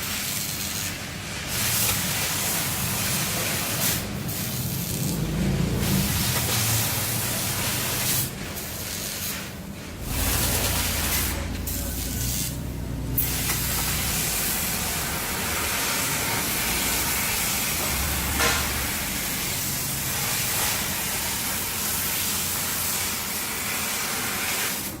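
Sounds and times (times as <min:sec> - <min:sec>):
cutting gas jet hissing: 0:00.0 - 0:25.0.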